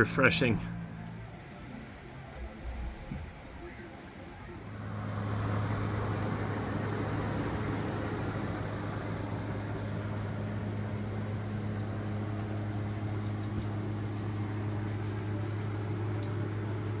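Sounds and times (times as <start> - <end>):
electric fans whirring: 0.0 - 17.0.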